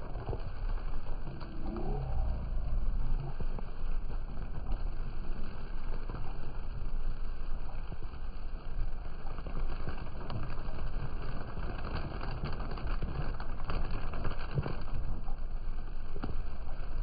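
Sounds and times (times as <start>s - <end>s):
hard rain falling: 0.0s - 17.0s
wind rumble on microphone: 0.0s - 17.0s.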